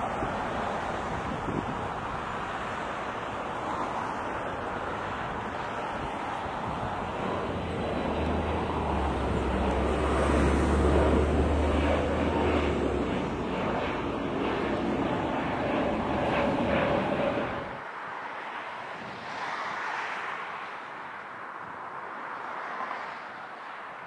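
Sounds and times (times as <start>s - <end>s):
airplane passing over: 0.0s - 24.0s.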